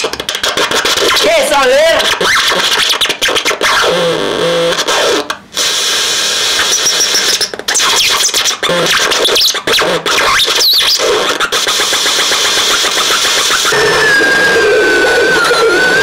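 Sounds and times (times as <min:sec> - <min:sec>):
electronic noise synthesizer buzzing: 0:00.0 - 0:16.0.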